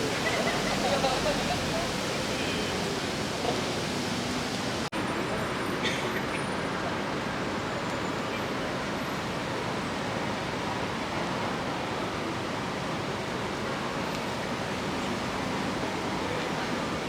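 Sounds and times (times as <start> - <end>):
traffic hiss: 0.0 - 17.0.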